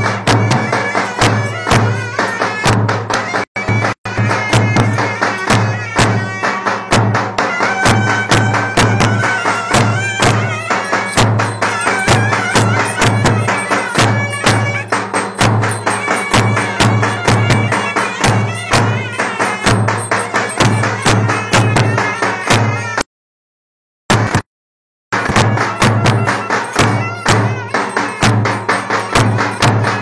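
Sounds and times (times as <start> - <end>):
steady drum beat: 0.0 - 23.0, 24.1 - 24.4, 25.1 - 30.0.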